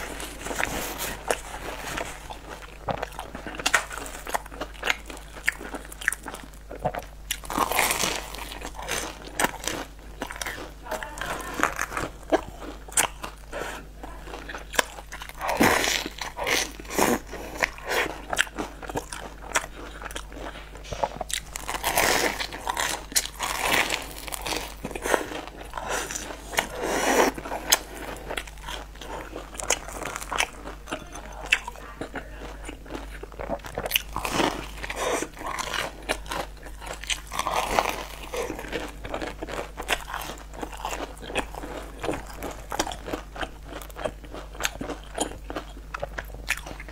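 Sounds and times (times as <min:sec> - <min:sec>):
crunchy pastry chewing: 0:00.0 - 0:46.9.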